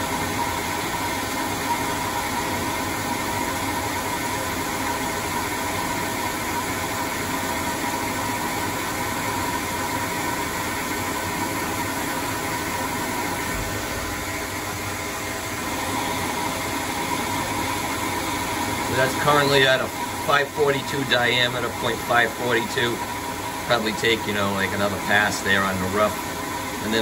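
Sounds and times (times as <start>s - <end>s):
lathe machine whine: 0.0s - 27.0s.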